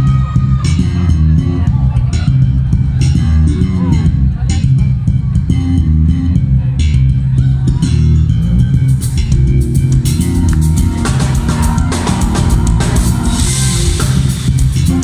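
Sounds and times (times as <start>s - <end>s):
drum kit: 0.0s - 15.0s
electric bass guitar: 0.0s - 15.0s.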